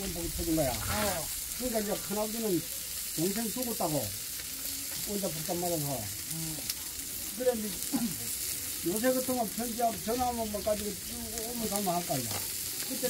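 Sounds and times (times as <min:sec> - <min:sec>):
meat sizzling on grill: 0:00.0 - 0:13.0
voices talking: 0:00.0 - 0:13.0.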